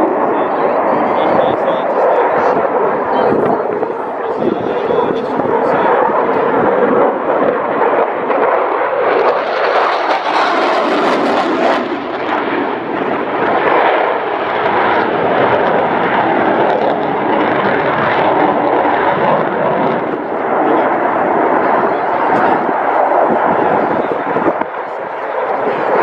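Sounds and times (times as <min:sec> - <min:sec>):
aircraft passing: 0:00.0 - 0:26.0.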